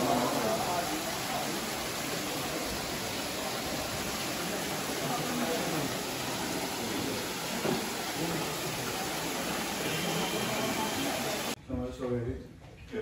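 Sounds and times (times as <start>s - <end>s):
faint indistinct voices: 0.0s - 11.6s.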